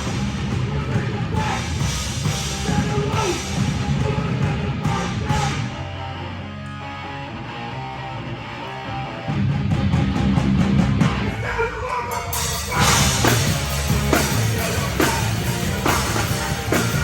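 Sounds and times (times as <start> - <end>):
guitar: 0.0 - 17.0
live rock band playing: 0.0 - 17.0.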